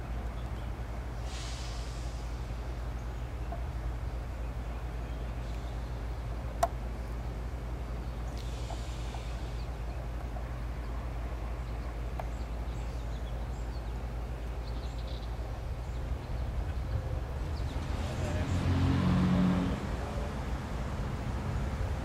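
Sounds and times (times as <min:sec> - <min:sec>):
diesel locomotive rumbling: 0:00.0 - 0:22.0.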